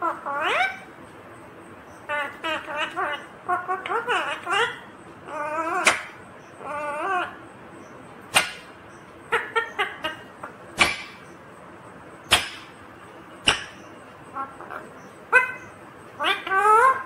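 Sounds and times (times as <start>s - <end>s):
parakeet chirping: 0.0s - 0.9s, 1.8s - 17.0s
parakeet squawking: 0.0s - 0.9s, 2.0s - 7.4s, 8.3s - 11.4s, 12.2s - 17.0s.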